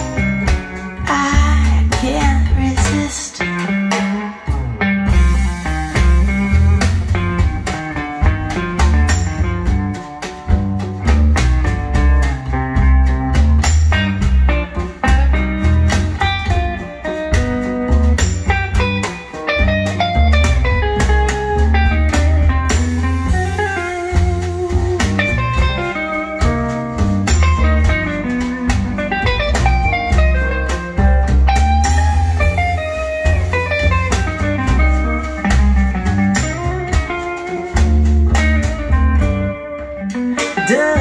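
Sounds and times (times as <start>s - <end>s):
deep bass line: 0.0s - 41.0s
guitar: 0.0s - 41.0s.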